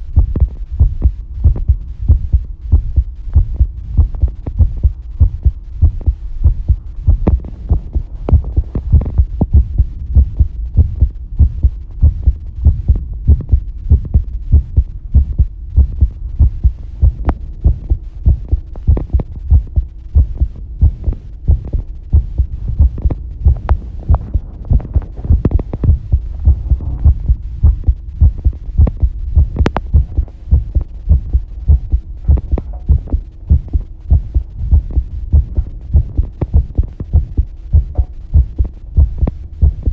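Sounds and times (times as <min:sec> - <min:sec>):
faint steady hum: 0:00.0 - 0:39.9
heartbeat thumps: 0:00.0 - 0:39.9.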